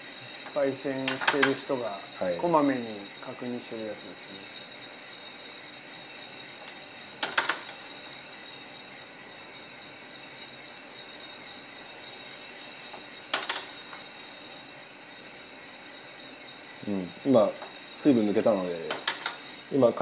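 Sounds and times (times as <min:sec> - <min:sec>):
coffee roaster hissing: 0:00.0 - 0:20.0.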